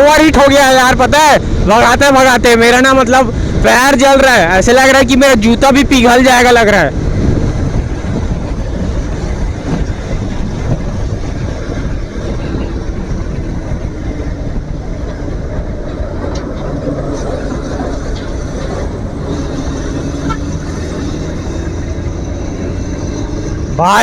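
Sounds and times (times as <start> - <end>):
wind noise: 0.0 - 24.0.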